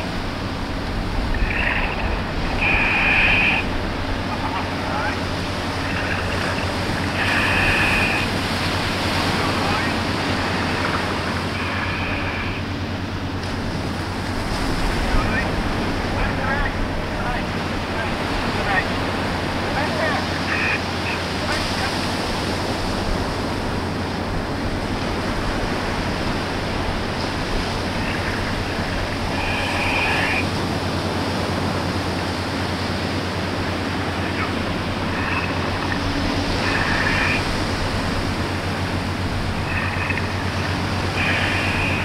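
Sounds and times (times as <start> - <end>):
machinery droning: 0.0 - 42.0
surf washing: 0.0 - 42.0.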